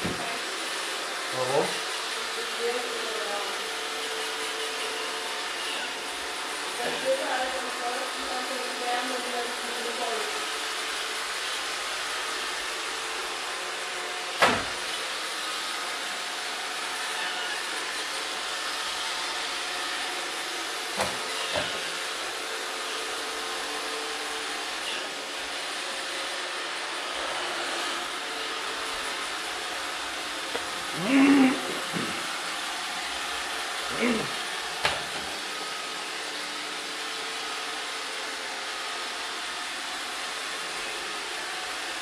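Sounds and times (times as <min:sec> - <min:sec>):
robot vacuum whirring: 0:00.0 - 0:42.0.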